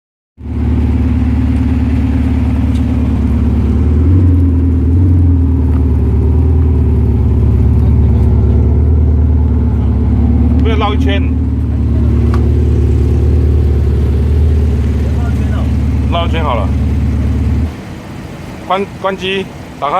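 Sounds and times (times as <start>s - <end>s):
diesel engine idling: 0.4s - 19.9s.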